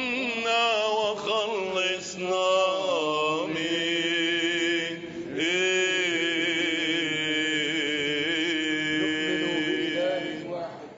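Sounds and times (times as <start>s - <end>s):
voice chanting long notes: 1.8s - 10.7s.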